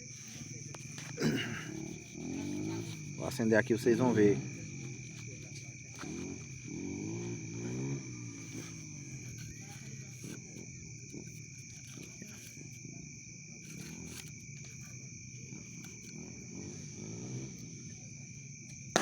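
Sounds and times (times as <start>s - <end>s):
faint low voices: 0.0s - 18.6s
insects trilling: 0.0s - 19.0s.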